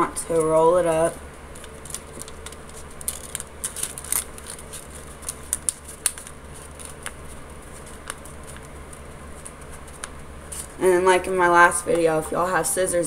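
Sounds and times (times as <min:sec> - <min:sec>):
paper crinkling: 0:00.3 - 0:10.8.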